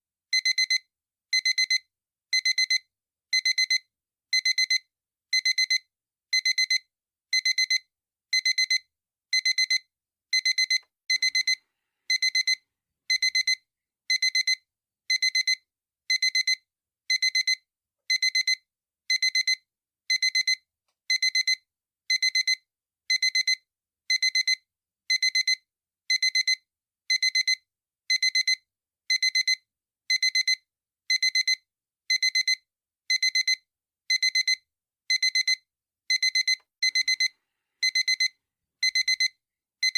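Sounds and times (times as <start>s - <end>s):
digital alarm clock beeping: 0.3s - 39.9s.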